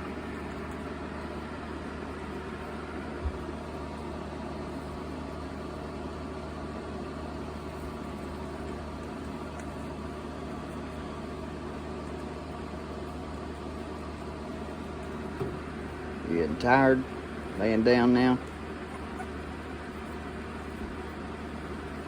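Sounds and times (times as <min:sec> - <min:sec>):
box fan whirring: 0:00.0 - 0:22.0
low motor hum: 0:00.0 - 0:22.0.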